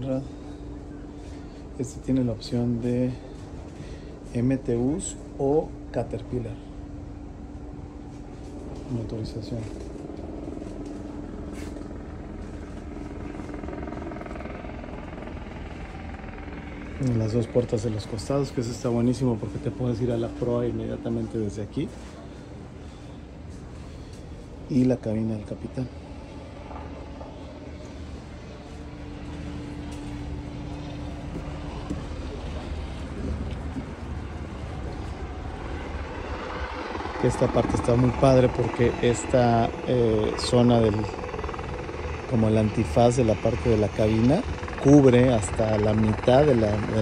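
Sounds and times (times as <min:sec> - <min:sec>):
faint steady hum: 0:00.0 - 0:47.0
low mechanical drone: 0:00.0 - 0:47.0
steady low rumble: 0:00.0 - 0:47.0.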